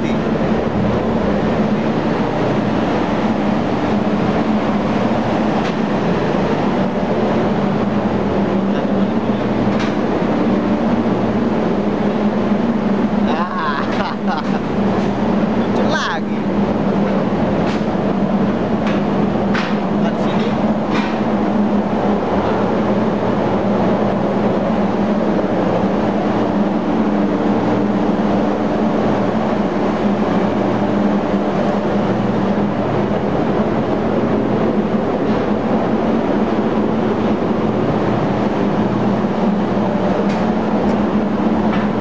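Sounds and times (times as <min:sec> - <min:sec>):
engine-room machinery drone: 0:00.0 - 0:42.0.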